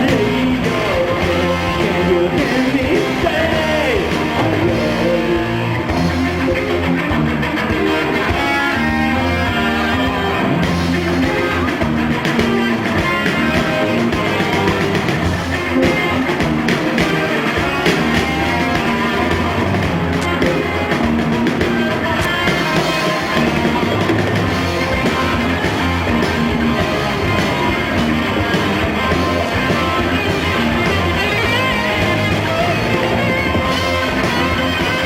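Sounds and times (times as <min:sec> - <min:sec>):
bass guitar: 0:00.0 - 0:35.0
distorted electric guitars: 0:00.0 - 0:35.0
drums: 0:00.0 - 0:35.0.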